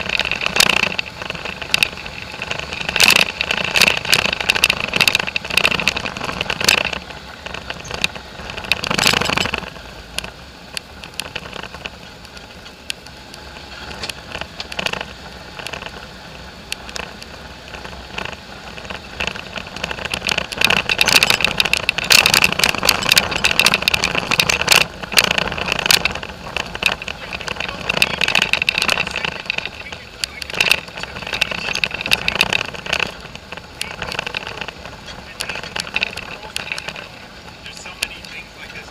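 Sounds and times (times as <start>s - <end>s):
quad bike engine: 0.0s - 38.9s
rattles and knocks over ruts: 0.0s - 38.9s.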